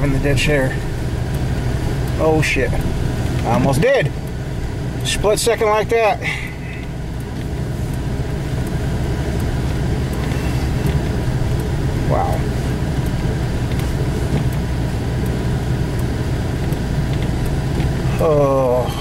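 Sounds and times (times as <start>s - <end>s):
vehicle engine and road drone: 0.0s - 19.0s.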